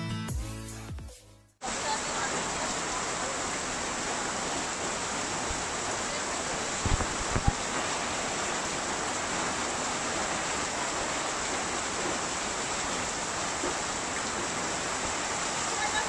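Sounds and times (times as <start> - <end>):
heavy rain downpour: 1.6 - 16.0.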